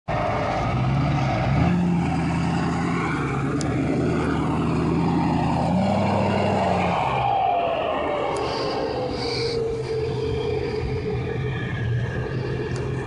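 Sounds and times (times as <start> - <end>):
diesel truck engine running: 0.1 - 13.0.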